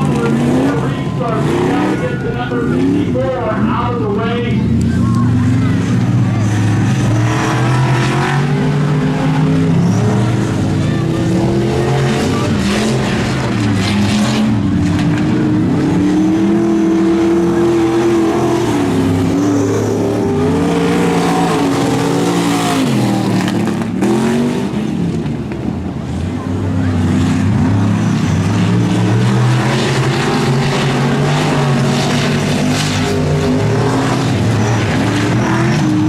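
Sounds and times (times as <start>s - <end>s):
monster truck engine revving: 0.0s - 36.0s.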